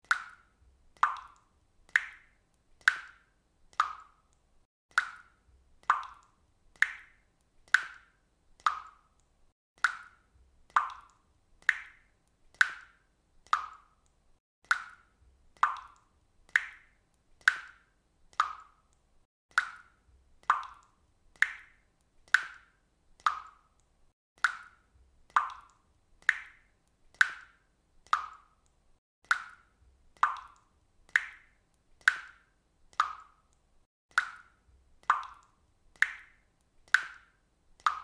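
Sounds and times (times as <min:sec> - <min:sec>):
faucet dripping water: 0:00.0 - 0:38.0.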